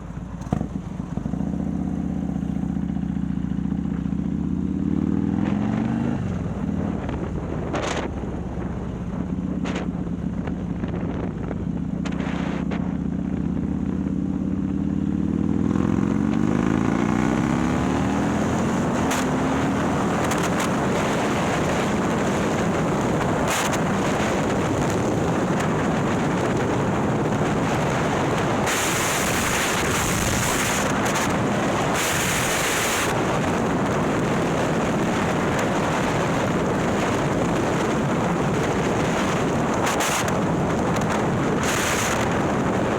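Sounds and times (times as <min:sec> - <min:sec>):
motorcycle engine accelerating: 0:00.0 - 0:42.9
wind buffeting microphone: 0:05.1 - 0:14.0, 0:14.8 - 0:42.9.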